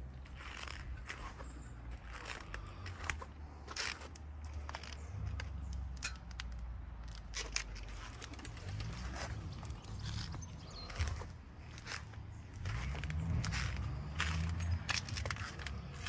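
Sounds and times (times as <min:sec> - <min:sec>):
footsteps on tarmac: 0:00.0 - 0:16.0
clicks and rustles: 0:00.2 - 0:16.0.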